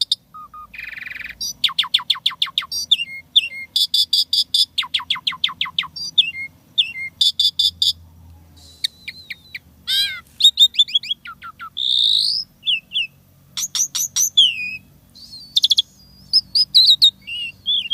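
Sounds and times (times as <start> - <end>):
starling singing varied song: 0.2 - 17.9.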